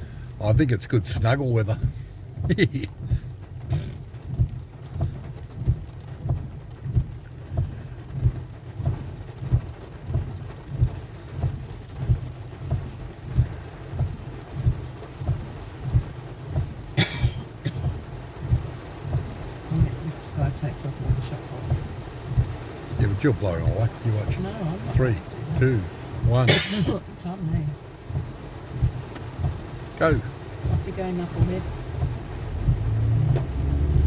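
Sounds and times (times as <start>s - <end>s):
heavy rain on a car: 0.0s - 34.0s
windscreen wipers thumping: 0.0s - 34.0s.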